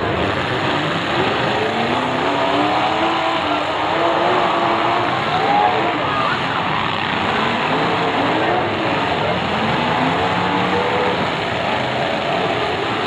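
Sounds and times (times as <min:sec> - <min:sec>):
car engines revving together: 0:00.0 - 0:13.0.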